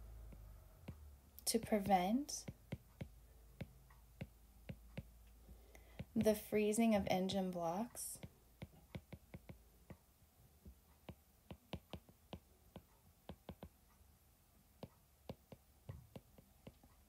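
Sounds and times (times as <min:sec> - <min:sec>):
stylus tapping glass screen: 0:00.0 - 0:14.0, 0:14.8 - 0:17.0.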